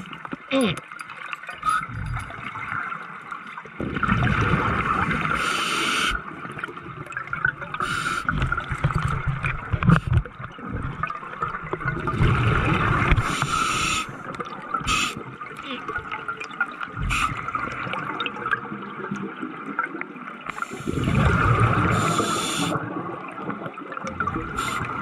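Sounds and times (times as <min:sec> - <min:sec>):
underwater bubbles gurgling: 0:00.0 - 0:25.0.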